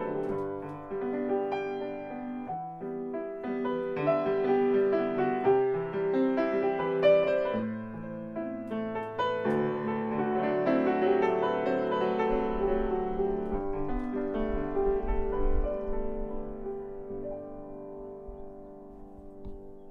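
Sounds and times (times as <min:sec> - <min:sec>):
grand piano chords: 0:00.0 - 0:19.9.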